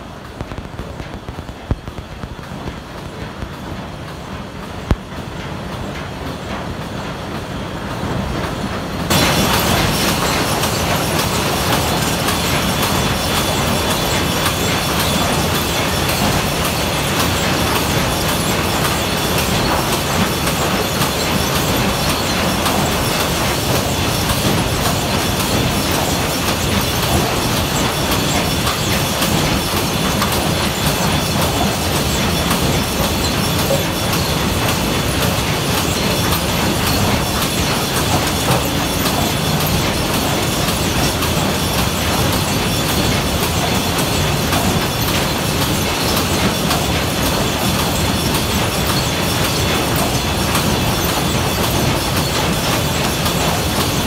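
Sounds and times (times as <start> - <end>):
conveyor machinery rattling: 0.0 - 54.0.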